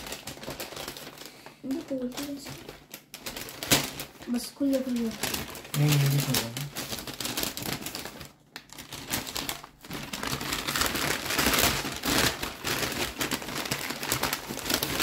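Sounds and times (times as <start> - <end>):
paper bag crinkling: 0.0 - 15.0.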